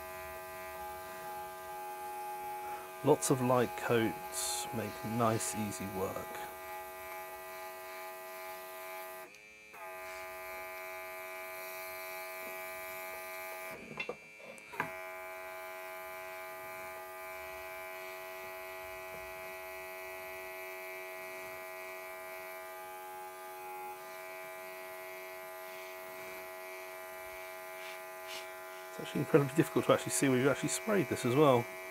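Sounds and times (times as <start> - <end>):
airbrush compressor buzzing: 0.0 - 31.9.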